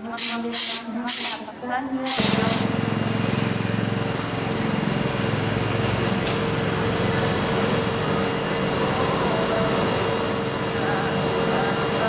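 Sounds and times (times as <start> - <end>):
locomotive machinery hum: 2.1 - 12.0.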